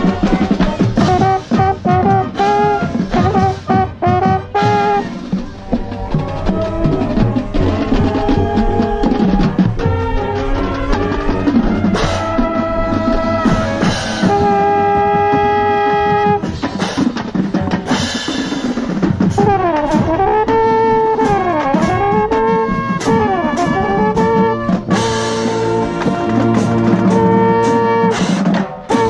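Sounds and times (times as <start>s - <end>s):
marching band brass: 0.0s - 29.0s
marching band drums: 0.0s - 29.0s.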